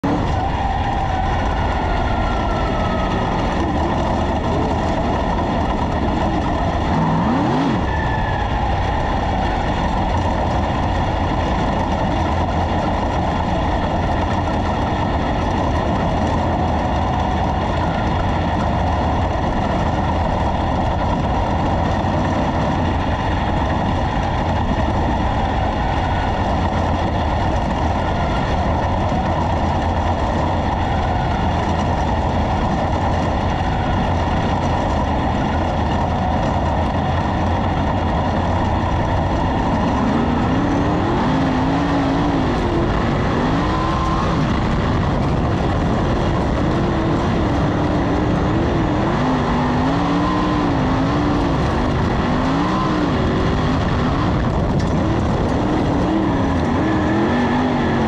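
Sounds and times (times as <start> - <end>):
race car engine running steadily: 0.0 - 58.0.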